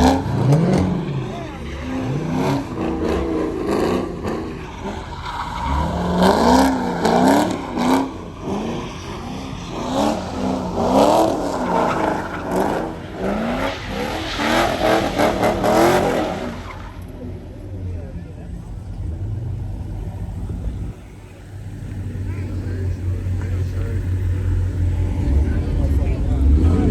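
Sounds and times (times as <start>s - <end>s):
car engine revving hard: 0.0s - 17.2s, 18.6s - 26.9s.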